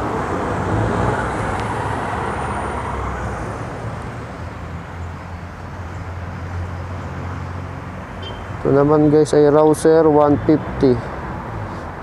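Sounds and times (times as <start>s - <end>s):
vehicle passing: 0.0s - 12.0s.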